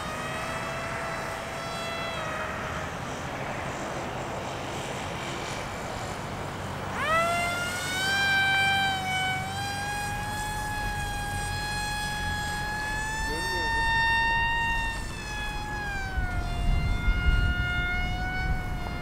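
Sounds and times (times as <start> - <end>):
rc plane motor whining: 0.0 - 19.0
wind rushing on microphone: 1.0 - 19.0.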